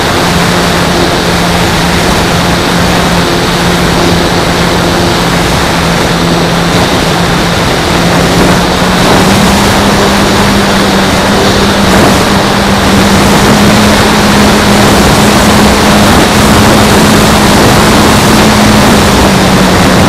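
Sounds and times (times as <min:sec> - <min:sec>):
model plane motor and propeller: 0:00.0 - 0:20.0
wind rush over microphone: 0:00.0 - 0:20.0.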